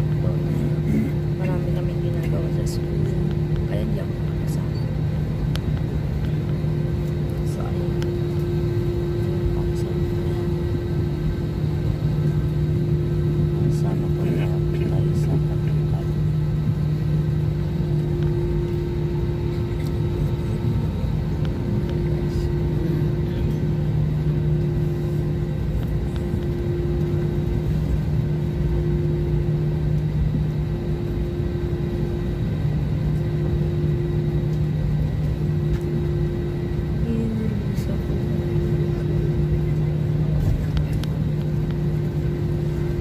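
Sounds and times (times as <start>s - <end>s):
airliner cabin drone: 0.0s - 43.0s.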